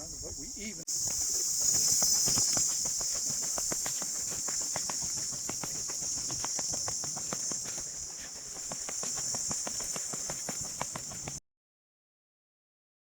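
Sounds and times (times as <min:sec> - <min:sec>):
high-pitched insect drone: 0:00.0 - 0:11.4
quick irregular taps: 0:00.9 - 0:11.4.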